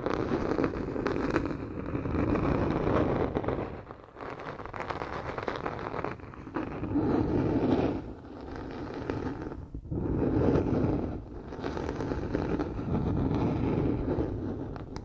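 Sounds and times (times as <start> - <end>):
crackling rustling and scraping: 0.0 - 15.0.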